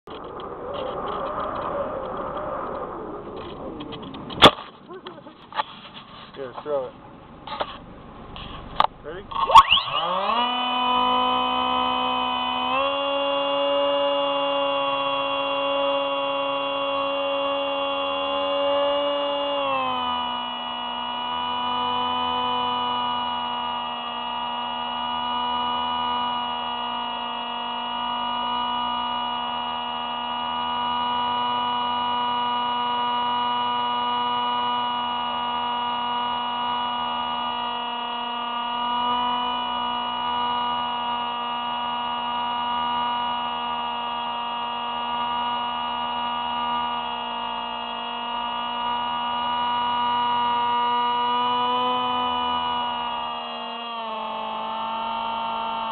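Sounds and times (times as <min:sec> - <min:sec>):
electric motor and propeller whining: 0:00.1 - 0:55.9.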